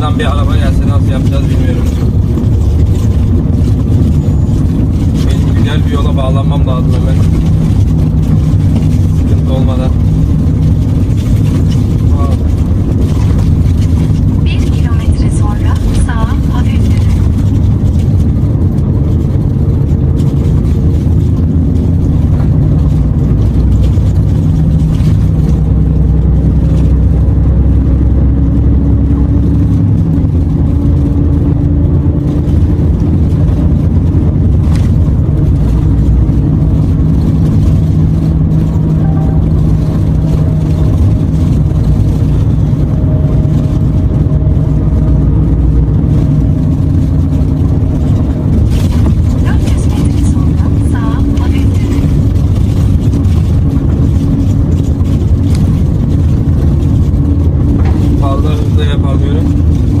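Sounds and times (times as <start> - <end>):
truck diesel engine drone: 0.0 - 60.0.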